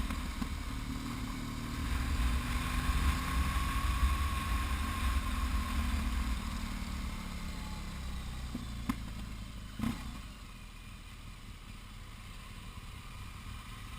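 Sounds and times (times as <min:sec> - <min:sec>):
motorcycle engine rumbling: 0:00.0 - 0:13.9.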